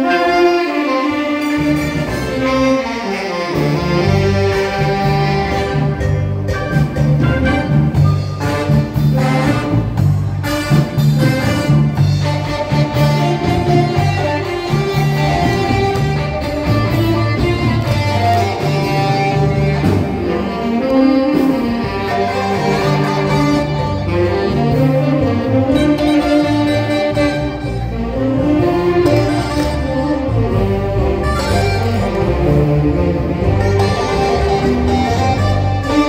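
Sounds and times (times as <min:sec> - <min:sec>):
instrumental music: 0:00.0 - 0:36.0.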